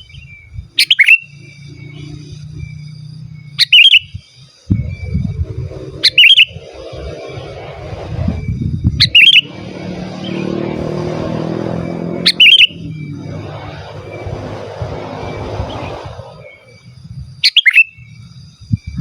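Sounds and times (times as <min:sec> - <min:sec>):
low rumbling noise: 0:00.0 - 0:17.4
bird chirping calls: 0:00.0 - 0:18.1.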